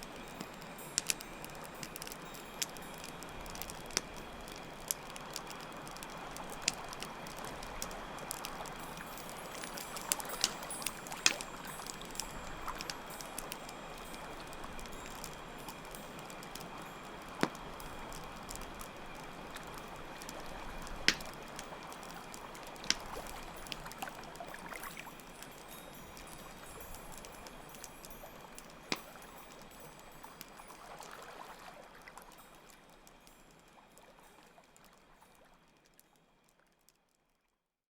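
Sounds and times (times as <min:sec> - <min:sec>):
crickets chirring: 0:00.0 - 0:30.9
campfire crackling and popping: 0:00.0 - 0:36.8.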